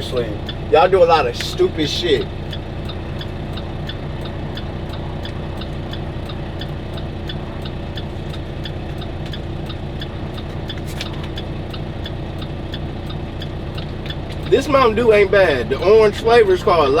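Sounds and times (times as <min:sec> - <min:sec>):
fast even ticking: 0:00.0 - 0:17.0
truck engine running: 0:00.0 - 0:17.0.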